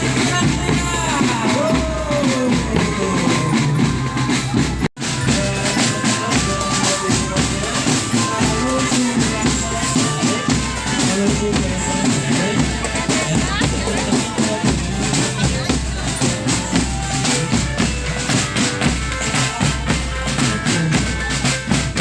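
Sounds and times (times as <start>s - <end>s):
bass drum beats: 0.0s - 22.0s
held melody line: 0.0s - 22.0s
snare drum beats: 0.0s - 22.0s.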